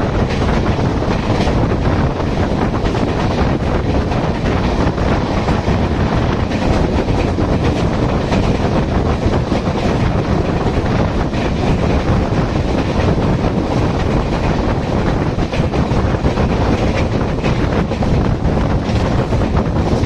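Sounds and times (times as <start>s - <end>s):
train rolling on rails: 0.0s - 20.0s
wind buffeting microphone: 0.0s - 20.0s.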